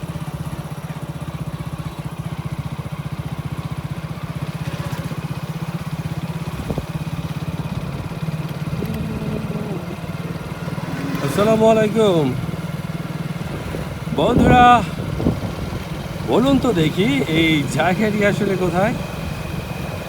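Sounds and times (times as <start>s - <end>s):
motorcycle engine puttering: 0.0s - 20.0s.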